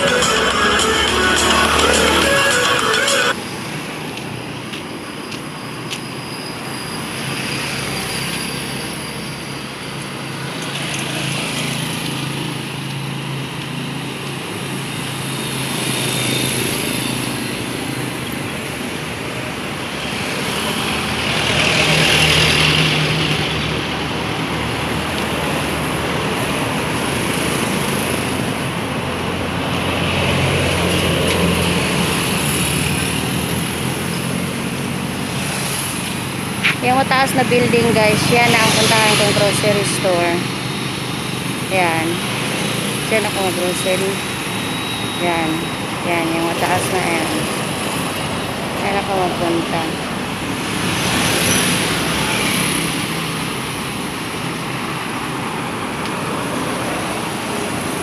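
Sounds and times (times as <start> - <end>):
steady traffic hum: 0.0 - 58.0
vehicles passing: 0.0 - 58.0.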